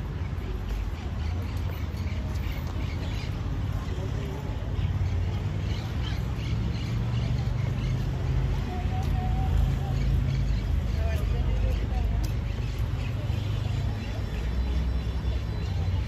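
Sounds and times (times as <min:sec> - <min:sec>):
faint voices of passers-by: 0:00.0 - 0:16.0.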